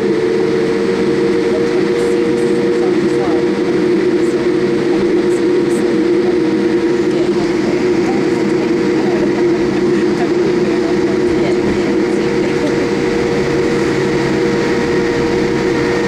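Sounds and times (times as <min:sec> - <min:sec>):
airplane cabin drone: 0:00.0 - 0:16.0.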